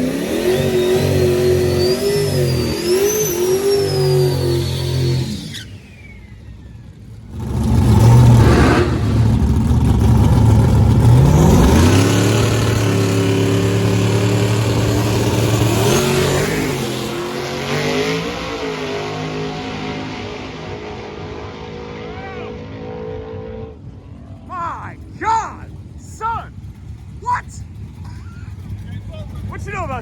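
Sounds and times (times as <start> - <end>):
drag racing car accelerating: 0.0 - 25.9.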